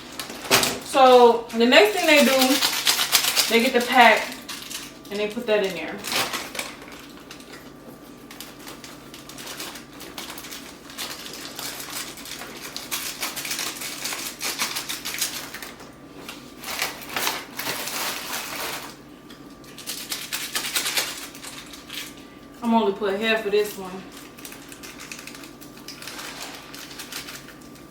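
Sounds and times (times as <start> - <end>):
plastic packaging crinkling: 0.0 - 19.0, 19.6 - 22.3, 24.1 - 27.9.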